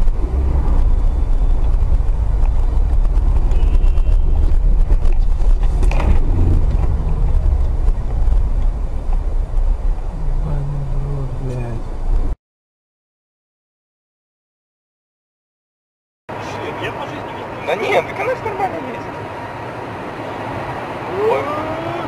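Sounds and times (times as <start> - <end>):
car engine and road noise: 0.0 - 12.4, 16.3 - 22.0.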